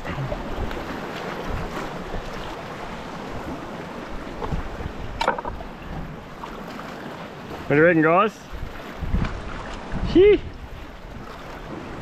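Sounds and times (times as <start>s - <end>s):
wind on microphone: 0.0s - 6.4s, 8.5s - 12.0s
sea washing against rocks: 0.0s - 12.0s.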